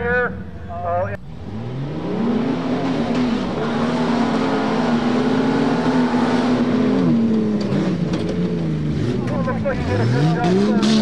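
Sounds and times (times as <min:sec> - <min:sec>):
truck engine revving hard: 0:01.2 - 0:11.0.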